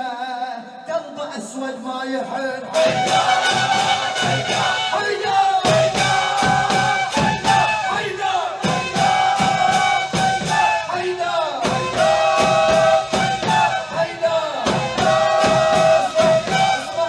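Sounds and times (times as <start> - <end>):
drums beating fast rhythm: 2.7 - 17.0.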